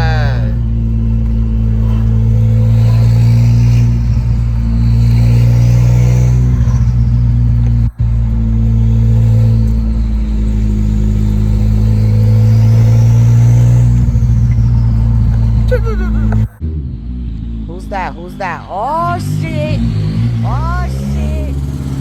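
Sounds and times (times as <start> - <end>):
faint whines: 0.0 - 20.6
car engine and road drone: 0.0 - 22.0.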